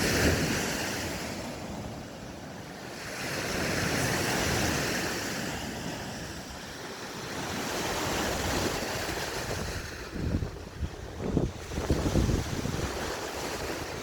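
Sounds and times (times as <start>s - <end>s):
waves washing on shore: 0.0s - 14.0s.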